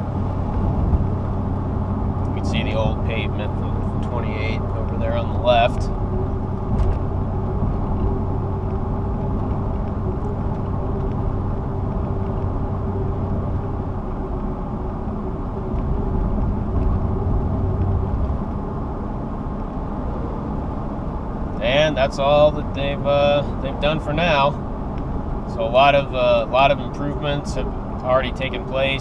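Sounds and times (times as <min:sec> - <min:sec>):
car road noise: 0:00.0 - 0:29.0
faint steady hum: 0:00.0 - 0:29.0.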